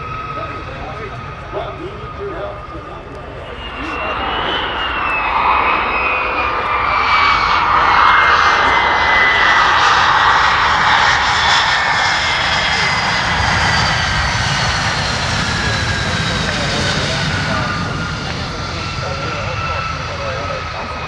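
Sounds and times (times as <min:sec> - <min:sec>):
jet engine roar with whine: 0:00.0 - 0:21.0.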